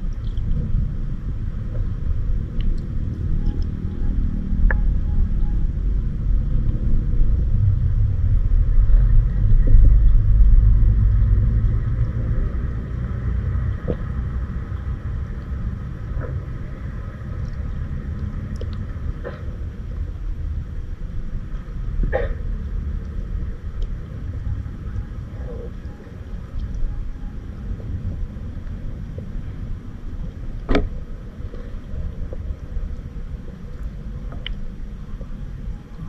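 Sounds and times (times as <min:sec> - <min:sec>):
underwater rumble of moving water: 0:00.0 - 0:36.0.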